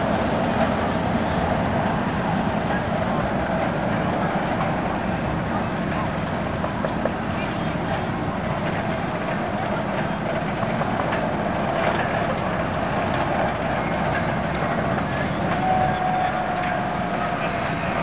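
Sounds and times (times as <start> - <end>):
roller coaster chain lift rumble: 0.0 - 18.0.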